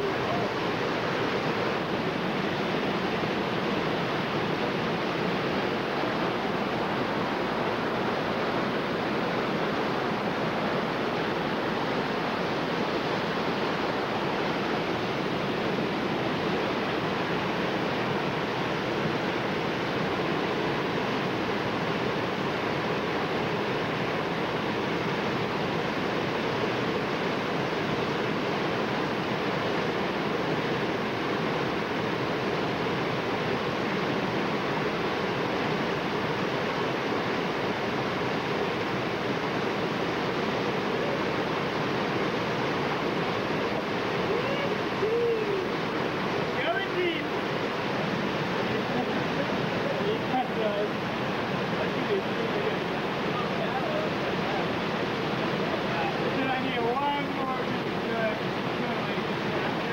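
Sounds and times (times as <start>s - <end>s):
whitewater rushing: 0.0s - 59.9s.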